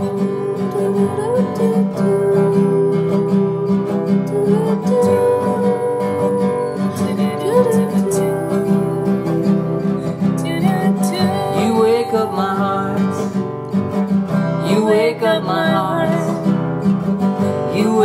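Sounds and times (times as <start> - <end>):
song with strummed acoustic guitar: 0.0 - 18.0.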